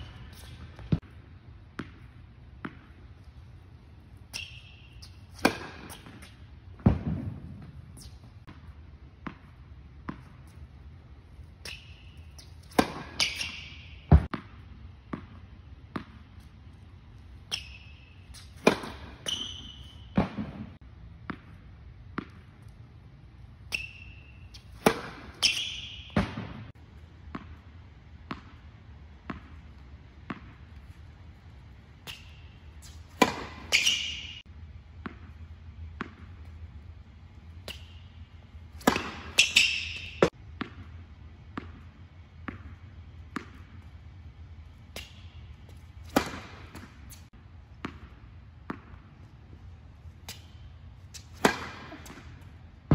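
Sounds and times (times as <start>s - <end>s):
tennis balls bouncing: 0.0s - 52.9s.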